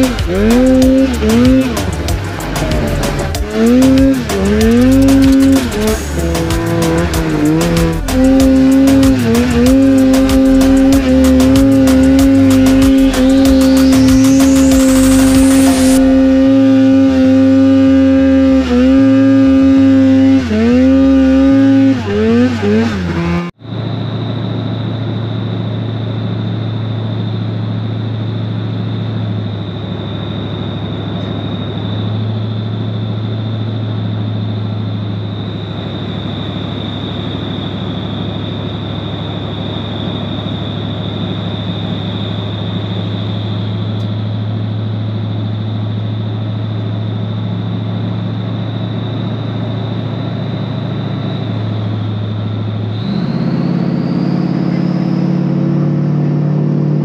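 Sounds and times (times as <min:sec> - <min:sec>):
vehicle engine droning with whine: 0:00.0 - 0:57.0.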